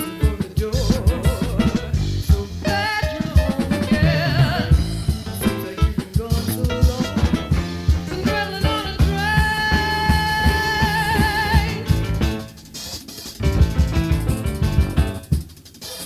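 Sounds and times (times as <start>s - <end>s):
band playing upbeat song: 0.0s - 16.0s.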